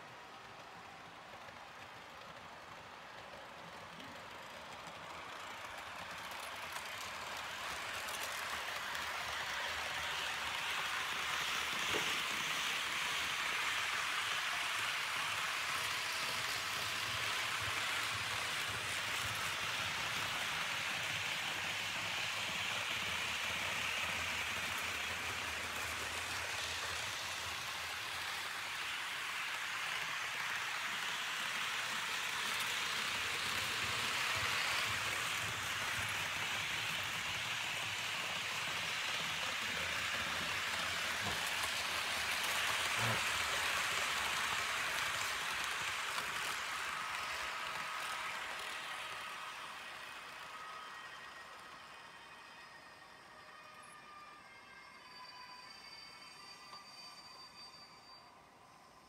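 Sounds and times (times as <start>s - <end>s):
model train wheels rolling on rails: 0.0s - 59.0s.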